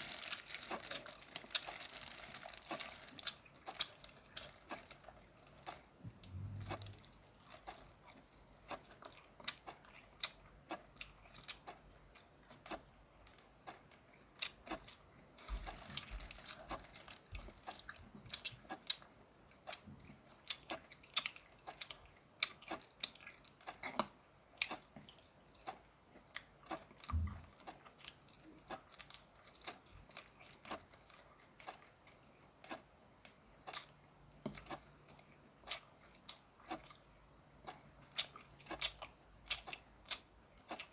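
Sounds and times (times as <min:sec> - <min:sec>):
person chewing shrimp: 0:00.0 - 0:40.9.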